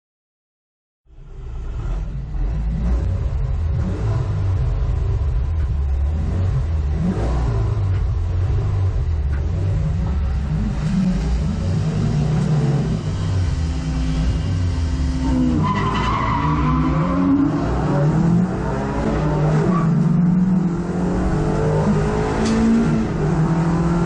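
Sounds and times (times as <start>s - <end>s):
race car engine rumbling: 1.1s - 24.0s.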